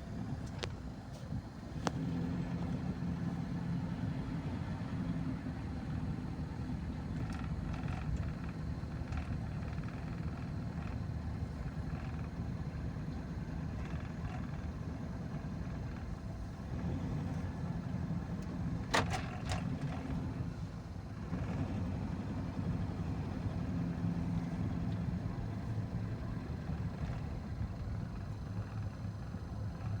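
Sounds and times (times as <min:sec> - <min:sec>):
motor vehicle rumbling: 0:00.0 - 0:30.0.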